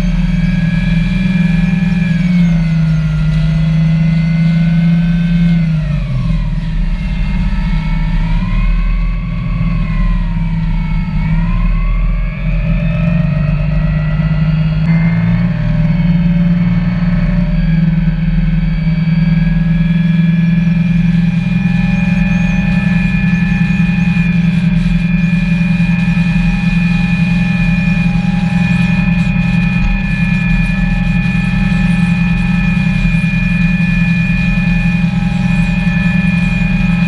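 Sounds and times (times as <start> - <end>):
outboard engine droning: 0.0 - 37.0.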